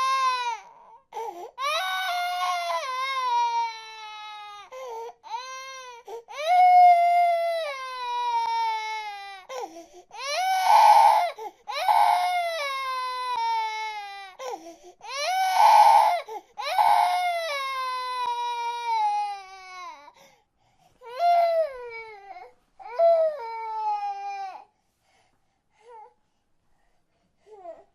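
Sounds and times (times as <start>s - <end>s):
baby crying: 0.0s - 20.1s, 21.0s - 24.7s.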